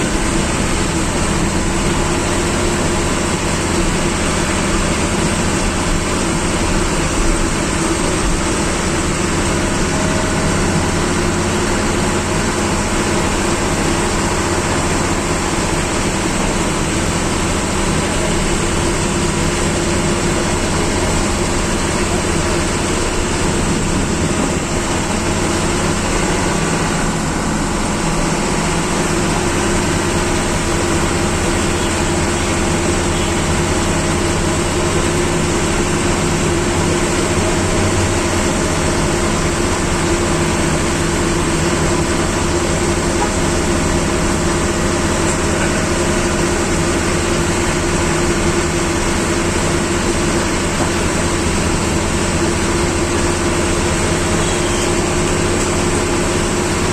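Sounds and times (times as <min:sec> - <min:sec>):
bus engine running: 0:00.0 - 0:56.9
road noise: 0:00.0 - 0:56.9.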